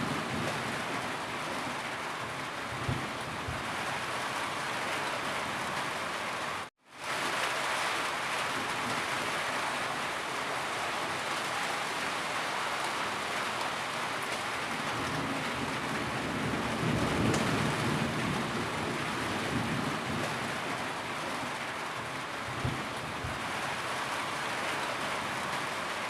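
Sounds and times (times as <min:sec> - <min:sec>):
hiss of falling rain: 0:00.0 - 0:26.0.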